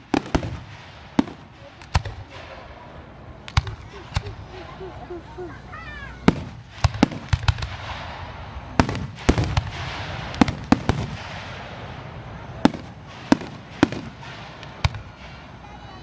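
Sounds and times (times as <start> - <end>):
firework shells bursting: 0.0 - 15.7
hissing haze: 0.0 - 16.0.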